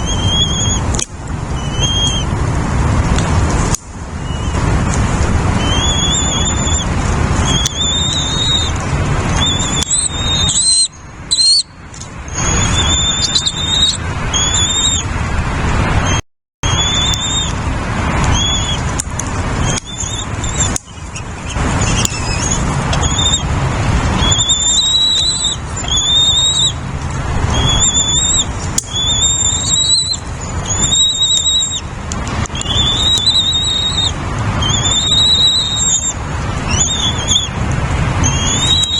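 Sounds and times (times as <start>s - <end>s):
nestling birds begging calls: 0.0s - 2.4s, 4.1s - 15.2s, 16.0s - 38.9s
loud steady rushing noise: 0.0s - 38.9s.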